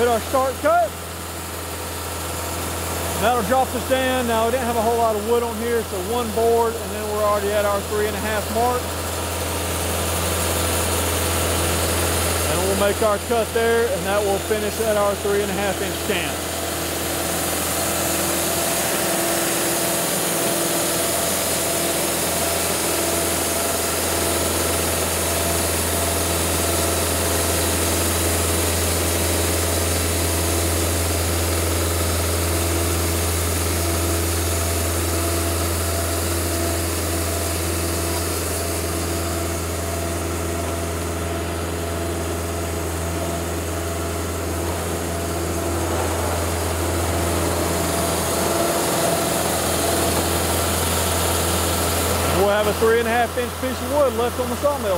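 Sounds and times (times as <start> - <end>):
band sawmill cutting log: 0.0 - 54.9.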